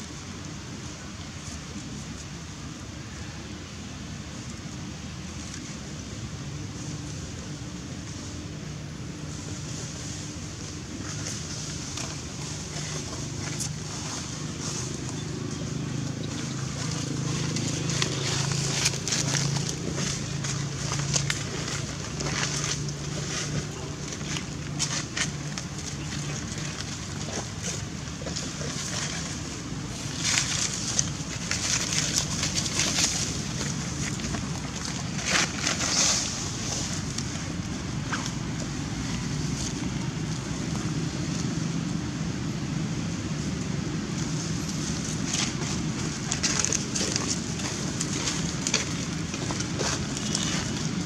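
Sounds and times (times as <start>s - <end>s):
dry leaves crackling and scraping: 8.0s - 51.0s.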